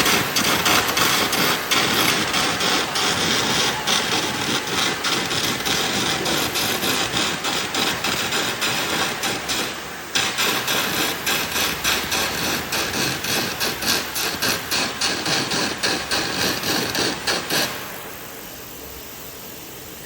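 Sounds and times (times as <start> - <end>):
welding arc crackling and popping: 0.0 - 20.0.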